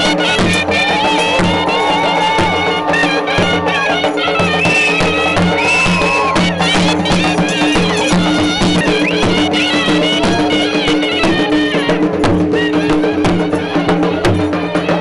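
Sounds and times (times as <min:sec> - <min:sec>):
dhol drum beats: 0:00.0 - 0:15.0
shehnai folk melody: 0:00.0 - 0:15.0.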